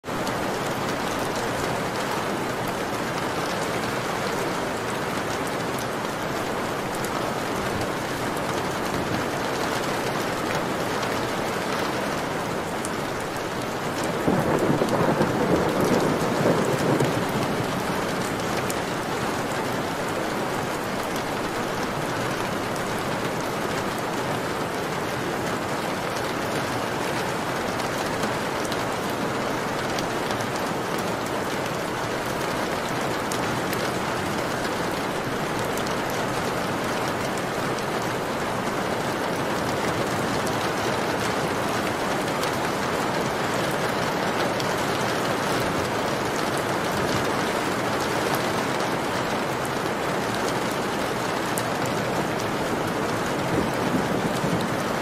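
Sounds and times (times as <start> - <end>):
rain on window glass: 0.1 - 55.0.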